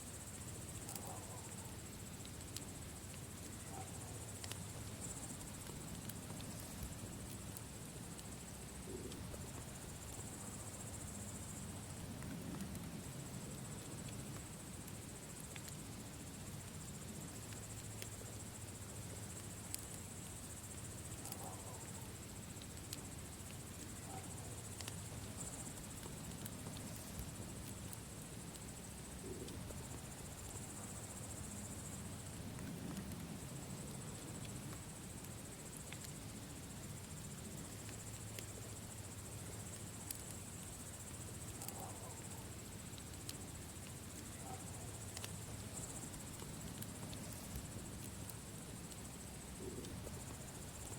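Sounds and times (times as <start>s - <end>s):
insects trilling: 0.0s - 50.9s
campfire crackling and popping: 0.3s - 3.6s, 4.2s - 50.9s.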